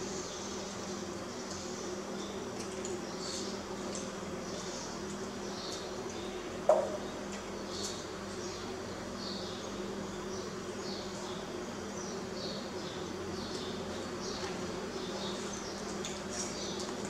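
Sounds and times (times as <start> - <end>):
low buzzing hum: 0.0 - 17.0.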